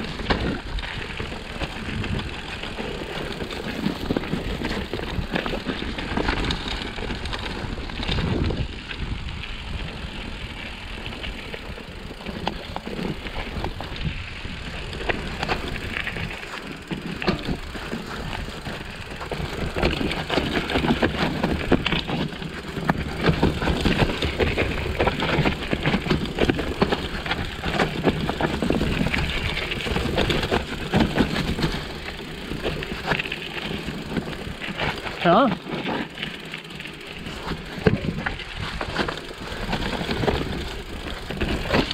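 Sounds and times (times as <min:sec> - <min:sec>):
bike clattering over rocks: 0:00.0 - 0:08.7, 0:14.8 - 0:41.9
bike tyres on dirt and stones: 0:00.0 - 0:41.9.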